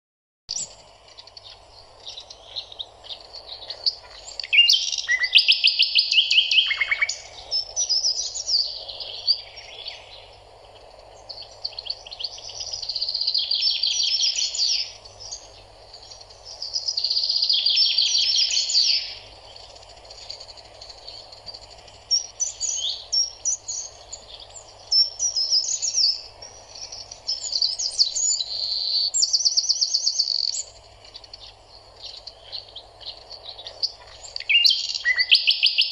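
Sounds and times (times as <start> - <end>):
faint steady hiss: 0.5 - 35.9
songbird trilling: 0.5 - 35.9.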